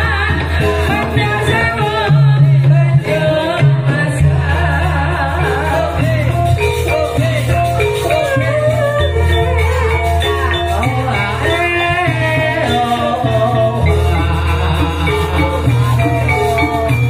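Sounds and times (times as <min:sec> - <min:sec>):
melodic percussion and drums: 0:00.0 - 0:17.0
person singing: 0:00.0 - 0:17.0.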